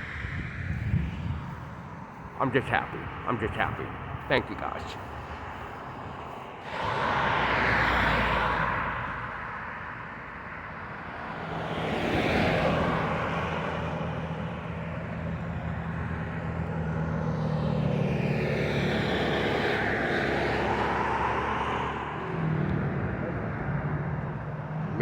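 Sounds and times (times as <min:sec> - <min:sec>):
steady engine hum: 0:00.0 - 0:25.0
vehicles passing by: 0:00.0 - 0:25.0.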